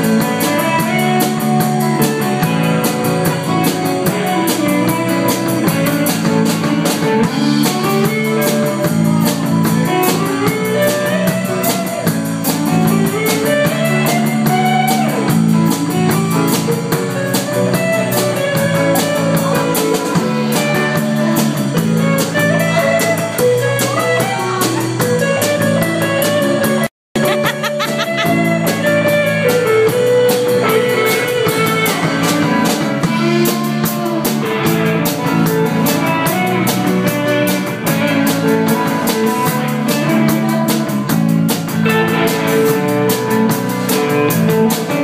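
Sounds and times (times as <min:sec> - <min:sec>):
lead guitar line gliding: 0:00.0 - 0:45.0
live rock band playing: 0:00.0 - 0:45.0.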